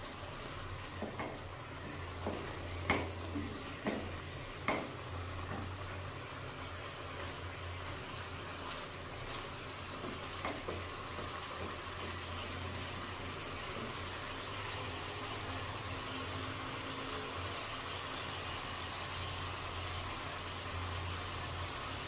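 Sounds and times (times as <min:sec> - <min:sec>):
curry sizzling in a wok: 0:00.0 - 0:22.0.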